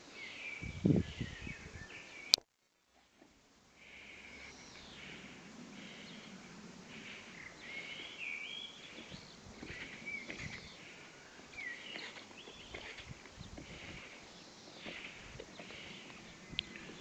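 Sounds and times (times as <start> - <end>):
background hiss: 0.0 - 17.0
songbirds singing: 0.0 - 17.0.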